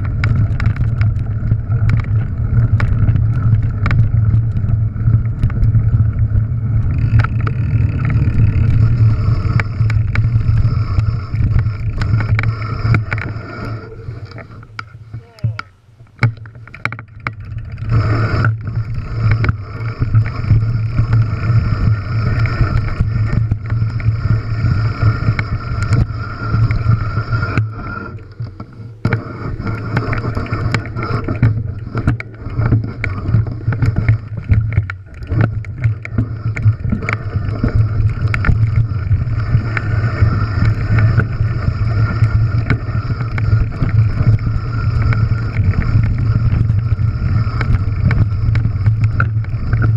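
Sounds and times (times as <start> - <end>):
bike knocking and rattling on stones: 0.0 - 49.9
tyres rolling on gravel: 0.0 - 49.9
wind rumble: 0.0 - 49.9.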